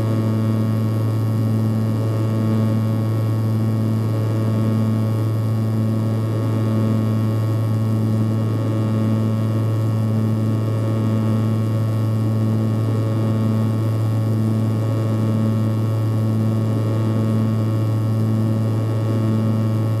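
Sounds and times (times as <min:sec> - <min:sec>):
turboprop cabin drone: 0:00.0 - 0:20.0.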